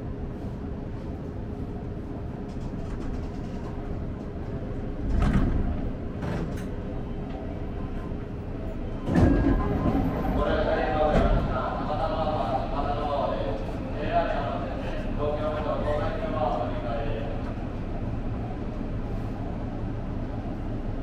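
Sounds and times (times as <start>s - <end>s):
faint train hum: 0.0s - 21.0s
low train rumble: 0.0s - 21.0s.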